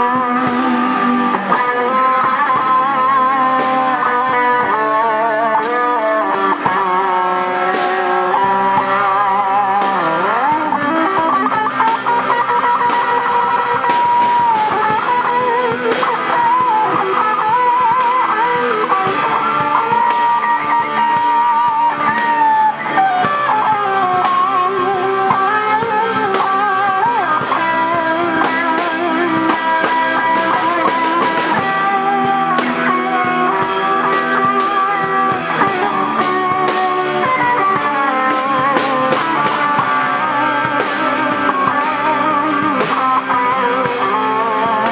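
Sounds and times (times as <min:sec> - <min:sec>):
lead electric guitar melody: 0:00.0 - 0:44.9
strummed rhythm guitar: 0:00.0 - 0:44.9.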